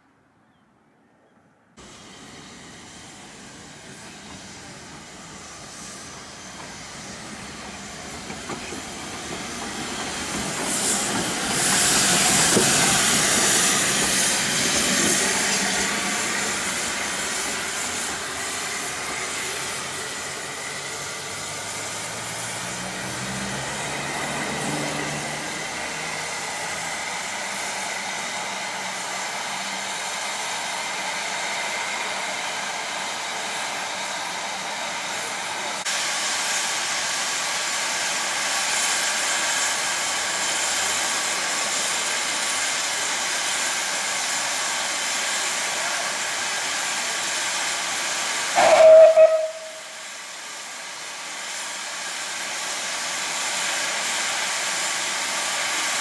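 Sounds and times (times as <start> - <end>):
steam locomotive hissing: 1.8 - 56.0.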